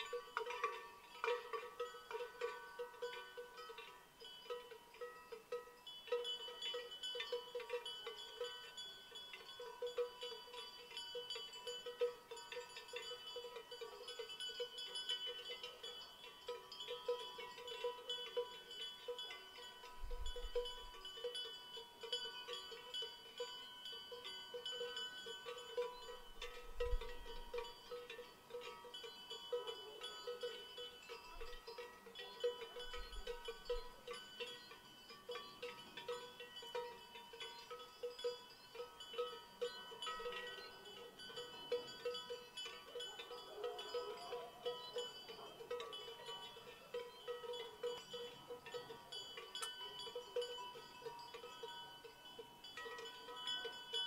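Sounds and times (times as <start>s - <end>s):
cowbells clanking: 0.0s - 54.0s.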